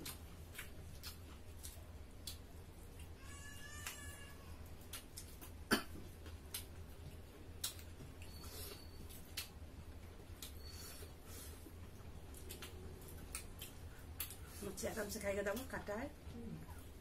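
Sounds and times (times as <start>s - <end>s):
low steady hum: 0.0s - 17.0s
people chewing and smacking: 0.0s - 17.0s.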